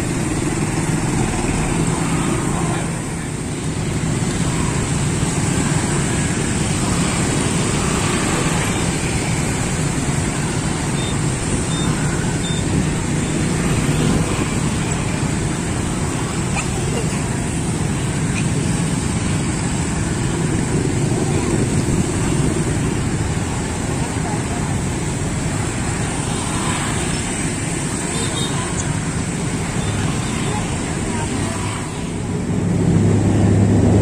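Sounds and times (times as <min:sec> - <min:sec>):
motorbikes and scooters passing: 0:00.0 - 0:34.0.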